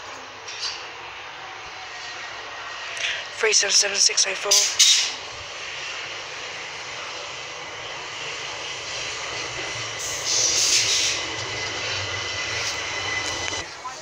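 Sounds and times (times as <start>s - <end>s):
rush of passing train cab: 0.0s - 14.0s
train wheels rumbling on rail: 0.0s - 14.0s.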